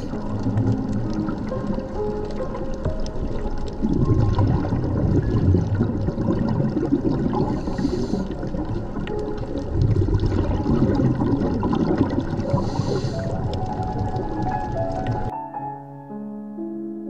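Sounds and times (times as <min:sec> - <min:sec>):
underwater rush of water: 0:00.0 - 0:15.3.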